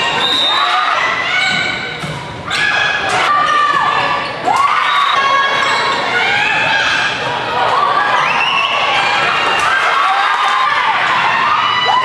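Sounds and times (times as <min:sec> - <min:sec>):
people shouting: 0:00.0 - 0:12.0.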